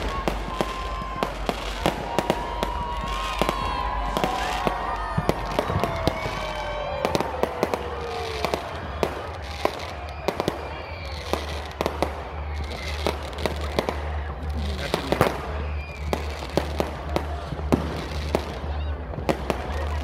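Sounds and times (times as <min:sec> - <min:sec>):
falling firework whistle: 0:00.0 - 0:14.1, 0:14.7 - 0:17.2
fireworks bangs and pops: 0:00.0 - 0:20.0.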